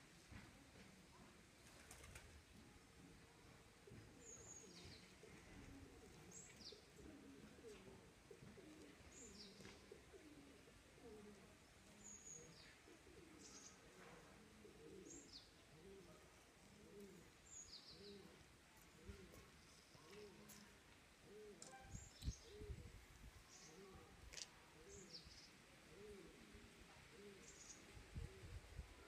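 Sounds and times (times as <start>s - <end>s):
faint bird calls and chirps: 3.5s - 29.0s.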